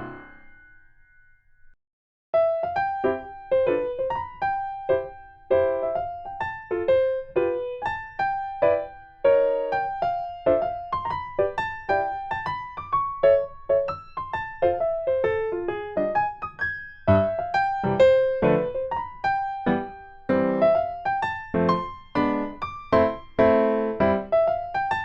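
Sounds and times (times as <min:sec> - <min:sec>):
bouncy electric piano melody: 0:02.4 - 0:25.0.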